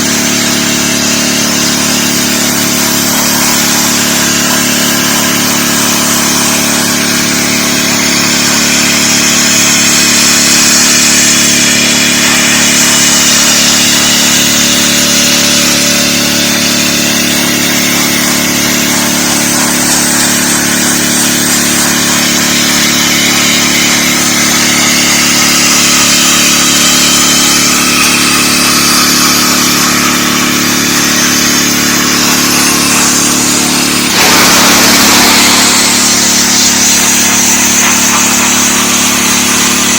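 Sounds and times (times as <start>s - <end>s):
pressure washer engine hum: 0.0s - 39.9s
high-pressure water spray hiss: 1.9s - 39.9s.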